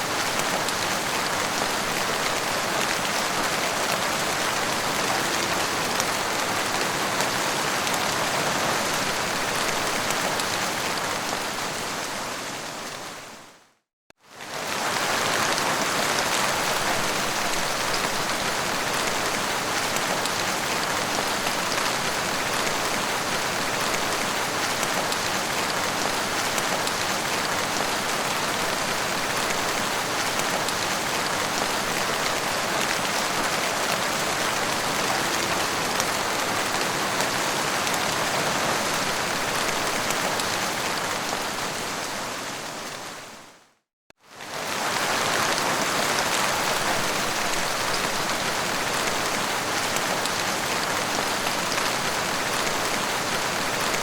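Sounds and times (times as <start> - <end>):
heavy rain: 0.0 - 13.6, 14.2 - 54.0.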